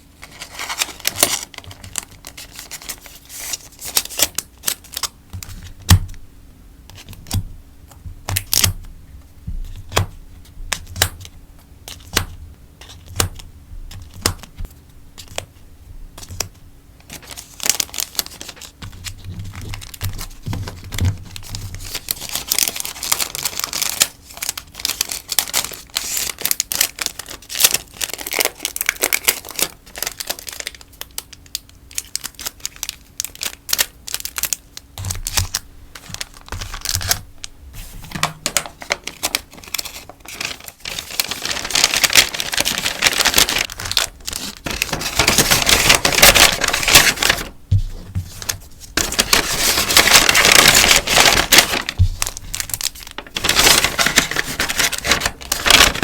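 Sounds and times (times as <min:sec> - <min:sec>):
packaging crinkling: 0:00.0 - 0:06.1, 0:16.2 - 0:56.0.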